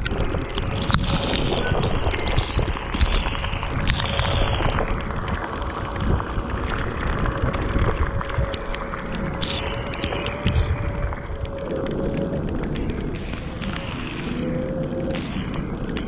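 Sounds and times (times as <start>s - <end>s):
raindrops ticking on camera: 0.0s - 16.0s
wind buffeting microphone: 0.0s - 16.0s.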